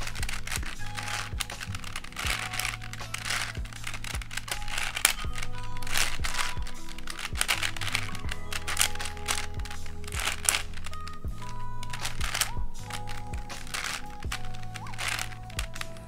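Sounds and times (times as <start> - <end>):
background music: 0.0 - 16.0
plastic puzzle clicking: 0.0 - 16.0.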